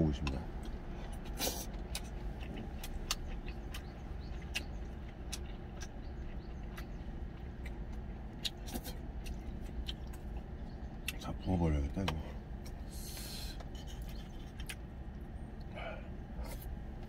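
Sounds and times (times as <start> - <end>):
steady low hum: 0.0 - 17.0
chewing: 0.2 - 11.4, 12.0 - 17.0.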